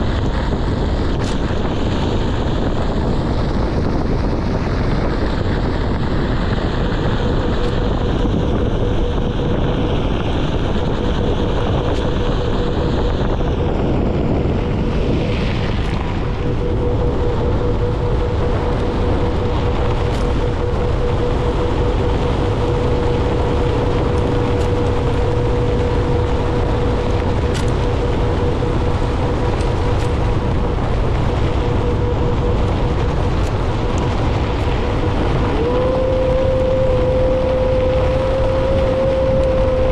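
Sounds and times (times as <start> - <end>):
thin motor whine: 0.0 - 39.9
wind buffeting microphone: 0.0 - 39.9.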